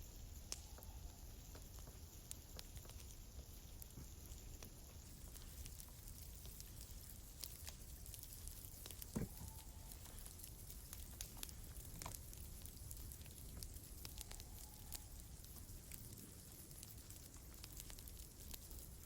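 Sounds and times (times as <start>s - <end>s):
campfire crackling and popping: 0.1s - 19.0s.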